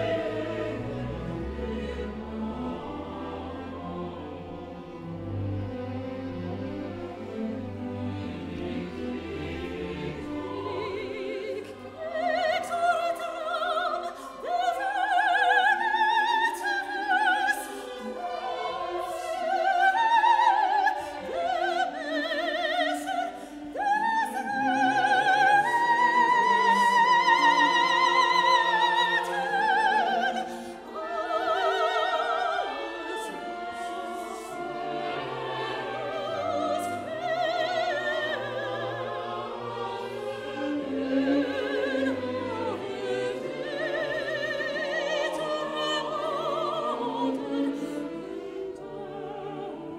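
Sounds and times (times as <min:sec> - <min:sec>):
string orchestra: 0:00.0 - 0:49.9
soprano singing with vibrato: 0:08.1 - 0:49.9.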